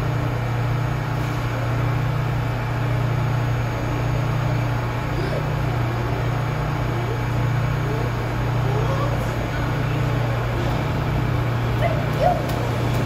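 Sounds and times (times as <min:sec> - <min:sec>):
subway train approaching in tunnel: 0:00.0 - 0:13.0.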